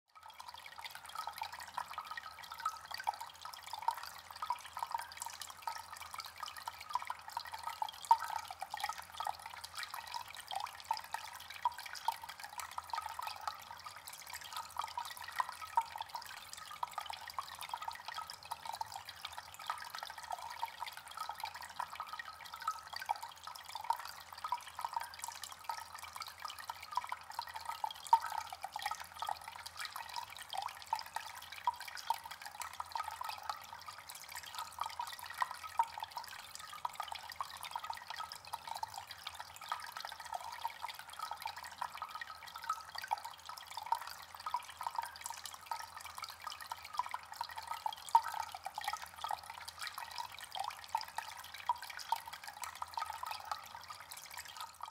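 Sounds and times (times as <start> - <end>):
fountain water trickling: 0.1 - 54.9.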